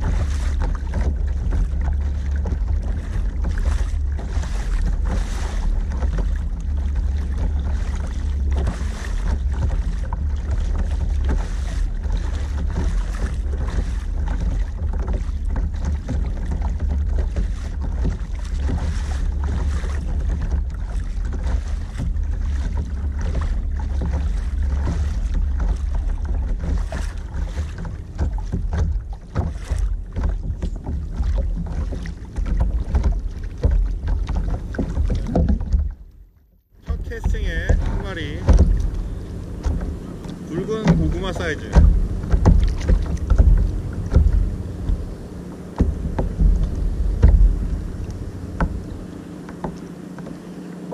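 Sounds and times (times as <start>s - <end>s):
wind rumbling on microphone: 0.0s - 36.1s, 36.8s - 50.9s
water rushing along kayak hull: 0.0s - 50.9s.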